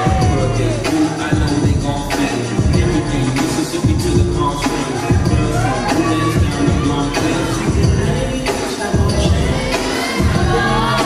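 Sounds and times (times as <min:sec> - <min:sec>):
heavy bass beat: 0:00.0 - 0:11.0
loud dance music: 0:00.0 - 0:11.0.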